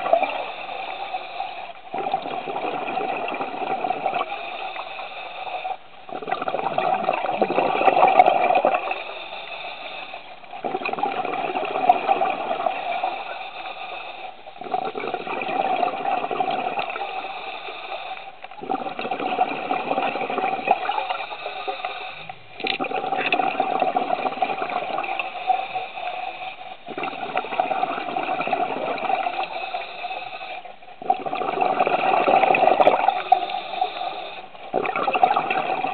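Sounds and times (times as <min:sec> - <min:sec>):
exhaled bubbles rushing underwater: 0:00.0 - 0:04.9, 0:05.5 - 0:09.3, 0:10.4 - 0:35.9.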